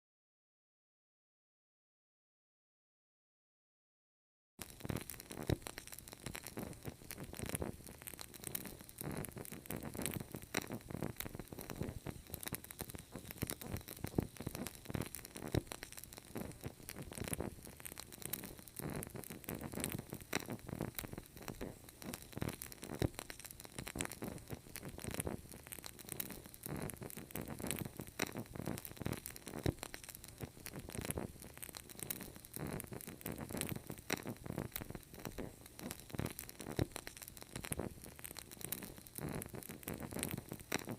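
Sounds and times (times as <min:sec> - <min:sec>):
candle wick crackling: 0:04.6 - 0:40.9.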